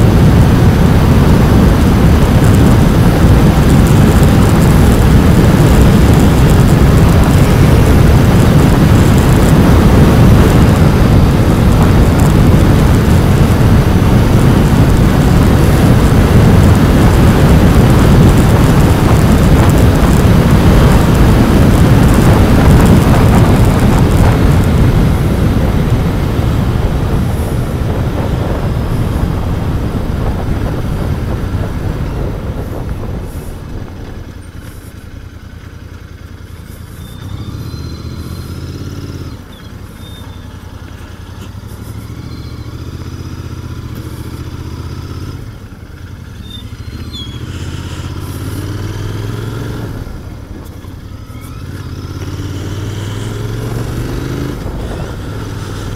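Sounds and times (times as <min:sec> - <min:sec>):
motorcycle engine riding: 0:00.0 - 0:55.9.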